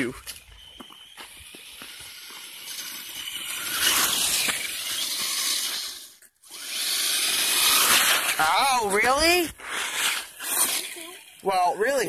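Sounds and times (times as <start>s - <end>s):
rc truck electric motor whining: 0.0s - 12.0s.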